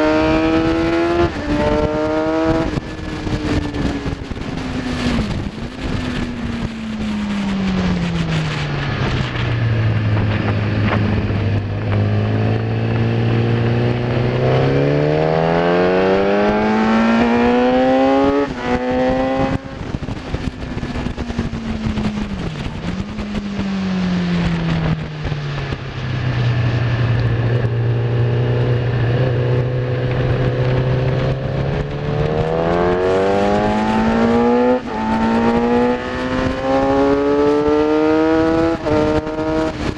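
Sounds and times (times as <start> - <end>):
motorcycle engine revving: 0.0 - 39.9
rush of wind: 0.0 - 39.9.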